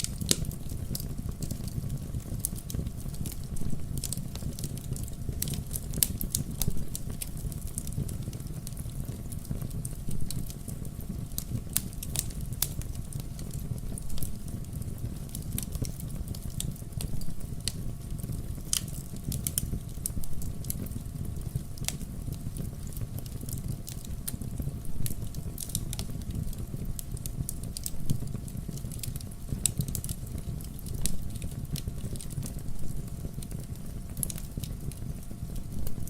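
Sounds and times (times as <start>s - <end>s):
fire crackling and popping: 0.0s - 36.0s
low rush of flames: 0.0s - 36.0s.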